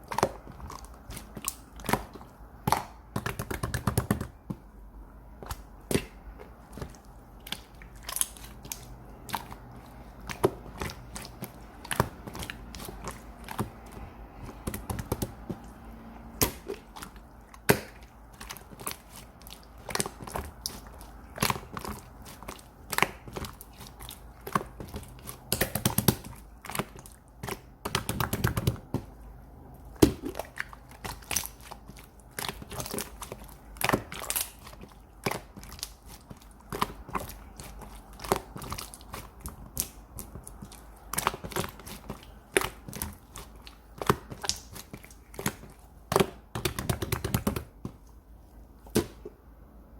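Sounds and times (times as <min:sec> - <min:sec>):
objects tapping and crinkling: 0:00.0 - 0:04.7, 0:05.4 - 0:15.8, 0:16.4 - 0:29.2, 0:30.0 - 0:48.2
low steady hum: 0:00.0 - 0:49.9.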